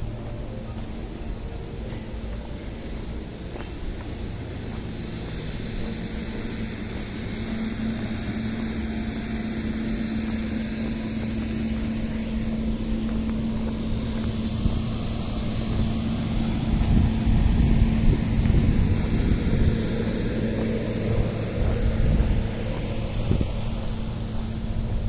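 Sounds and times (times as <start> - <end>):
motor droning: 0.0 - 25.0.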